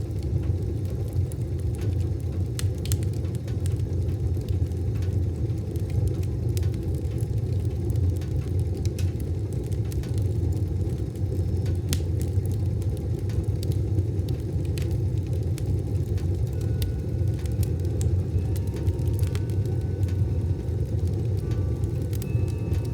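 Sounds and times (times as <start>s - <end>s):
fire crackles and pops: 0.0s - 22.9s
wood stove fire rumbling: 0.0s - 22.9s.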